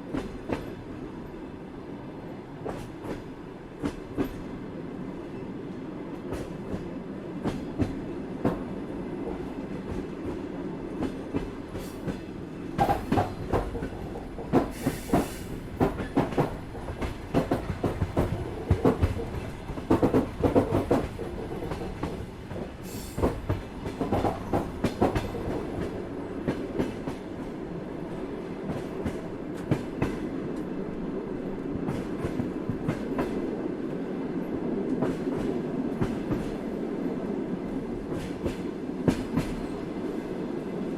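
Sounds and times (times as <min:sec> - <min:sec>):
train rumbling on track: 0:00.0 - 0:40.9.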